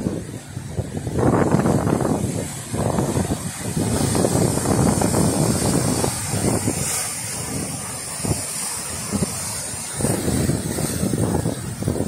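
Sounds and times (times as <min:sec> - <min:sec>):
sea surf breaking on boulders: 0:00.0 - 0:12.0
wind rumbling on microphone: 0:00.0 - 0:12.0.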